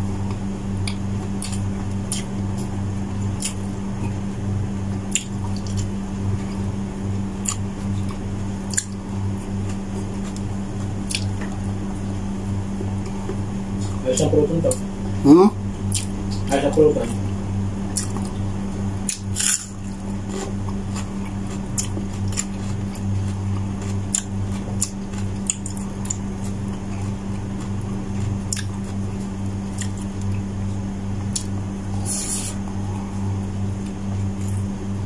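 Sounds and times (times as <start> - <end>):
low hum: 0.0 - 35.0
man chewing: 0.2 - 4.2, 5.0 - 6.7, 7.3 - 12.1, 14.7 - 16.4, 17.8 - 30.5, 31.2 - 34.7.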